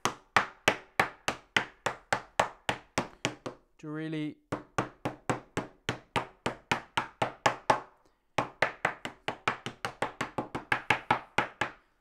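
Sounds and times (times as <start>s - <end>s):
hand tool tapping: 0.0s - 3.6s, 4.5s - 11.8s.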